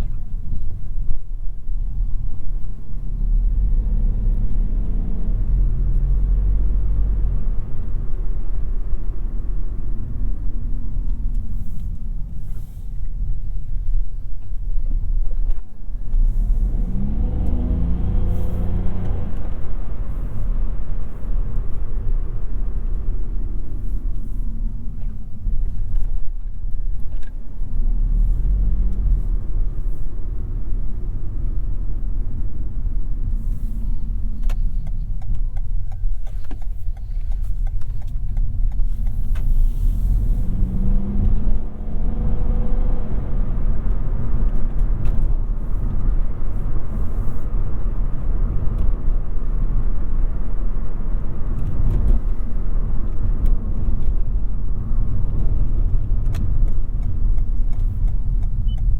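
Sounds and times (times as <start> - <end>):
tyres rumbling on road: 0.0 - 58.9.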